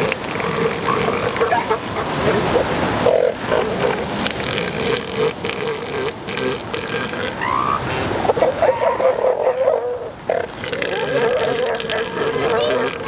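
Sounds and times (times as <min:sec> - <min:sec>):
elephant seal wavering call: 0:00.0 - 0:09.1, 0:10.0 - 0:13.0.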